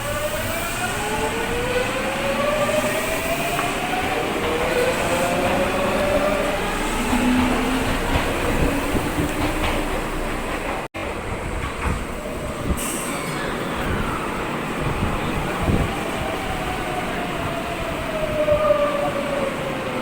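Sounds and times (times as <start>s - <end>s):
rumble of wheels on rail: 0.0s - 20.0s.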